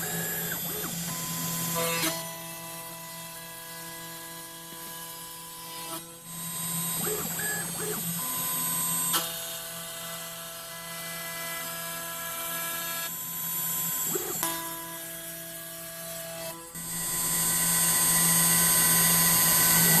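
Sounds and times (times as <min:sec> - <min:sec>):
router spindle whine and cutting: 0:00.0 - 0:20.0.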